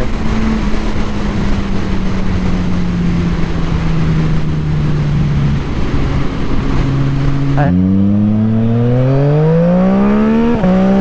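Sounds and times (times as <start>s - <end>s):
motorcycle engine running: 0.0s - 11.0s
wind noise rushing: 0.0s - 11.0s.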